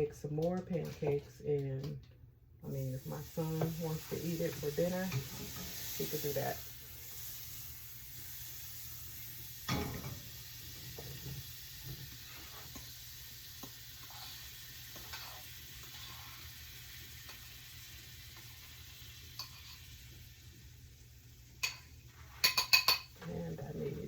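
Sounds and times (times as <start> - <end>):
pancakes sizzling in a pan: 2.8 - 24.0.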